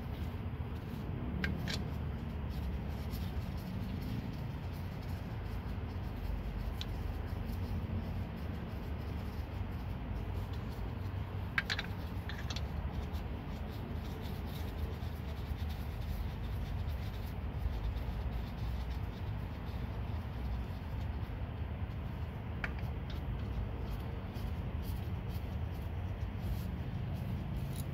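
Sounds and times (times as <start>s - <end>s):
metal rubbing: 0.0s - 17.7s, 22.1s - 27.9s.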